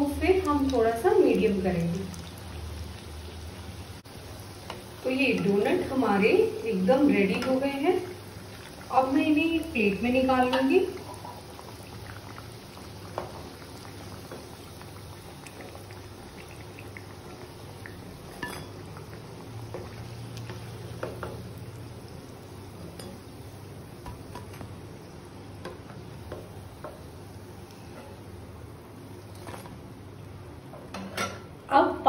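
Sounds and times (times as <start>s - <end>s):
doughnuts sizzling in hot oil: 0.0s - 32.0s.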